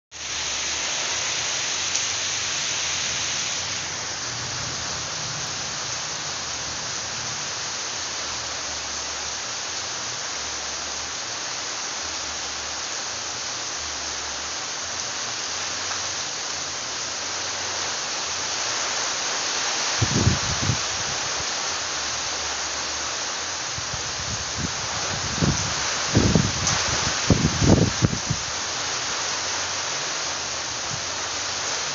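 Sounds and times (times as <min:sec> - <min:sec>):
heavy rain falling: 0:00.1 - 0:31.9.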